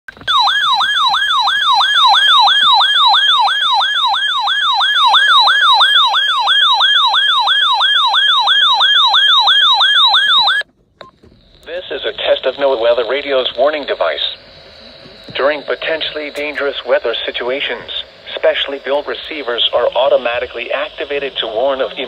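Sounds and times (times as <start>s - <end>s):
electronic alert siren sweeping: 0.2s - 10.6s, 11.7s - 22.0s.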